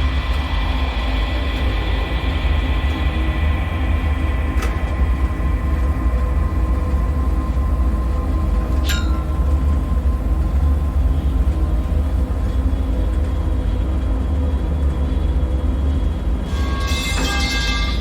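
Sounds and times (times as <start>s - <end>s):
deep rumbling drone: 0.0s - 18.0s.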